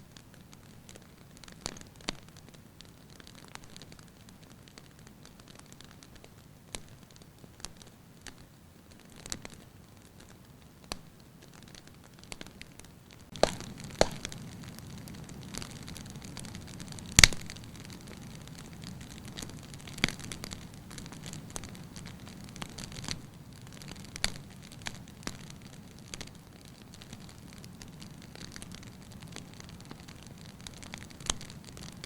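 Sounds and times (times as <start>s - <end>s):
firewood crackling and popping: 0.0s - 32.0s.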